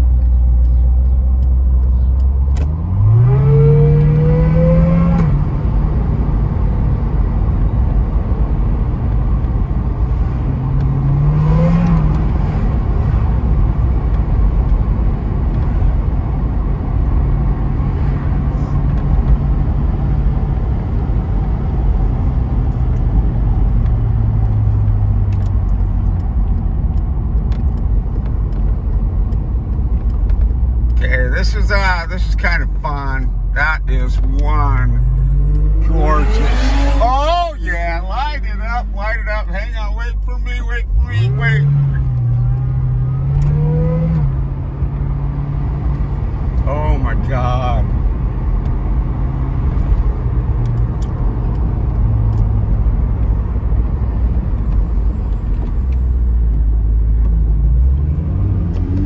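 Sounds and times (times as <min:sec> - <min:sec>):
car engine accelerating: 0:00.0 - 0:59.0
road and tyre rumble: 0:00.0 - 0:59.0.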